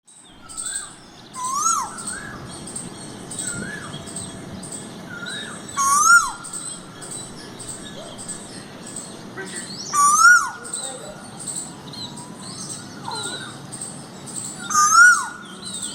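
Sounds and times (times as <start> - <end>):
rising and falling whistled bird call: 0.1 - 15.9.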